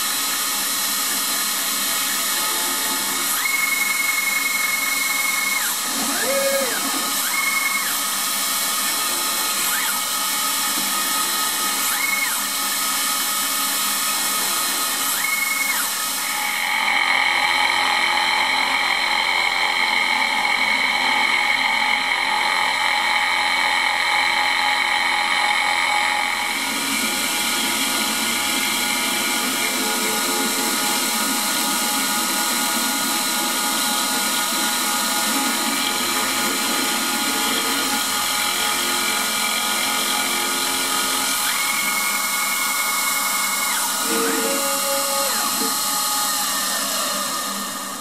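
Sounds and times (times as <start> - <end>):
cutter machining metal: 0.0 - 48.0
router spindle high-pitched whine: 0.0 - 48.0.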